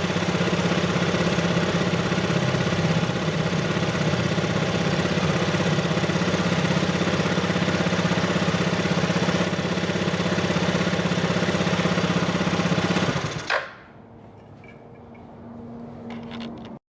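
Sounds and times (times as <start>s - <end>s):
scooter engine idling: 0.0s - 13.9s.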